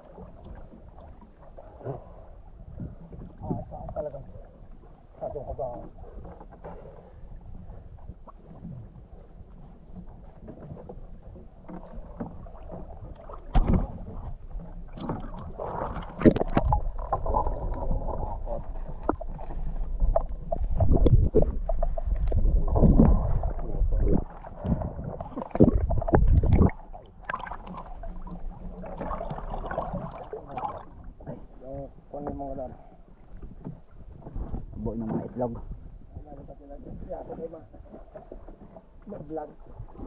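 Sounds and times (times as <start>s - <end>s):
water sloshing and gurgling: 0.0s - 40.0s
water splashes: 0.0s - 40.0s.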